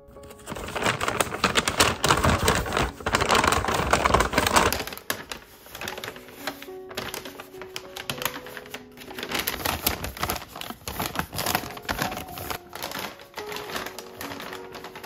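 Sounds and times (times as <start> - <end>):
soft background music: 0.0 - 15.0
stiff paper crinkling and rustling: 0.0 - 15.0.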